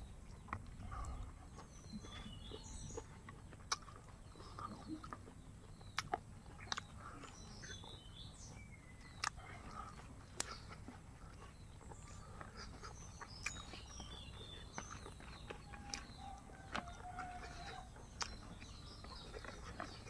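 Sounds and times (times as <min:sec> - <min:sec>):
birds chirping: 0:00.0 - 0:20.0
man eating with clicks and smacks: 0:00.0 - 0:20.0.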